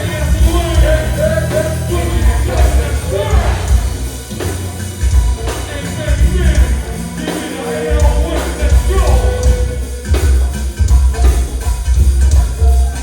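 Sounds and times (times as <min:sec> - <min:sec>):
music with heavy bass and vocals: 0:00.0 - 0:13.0.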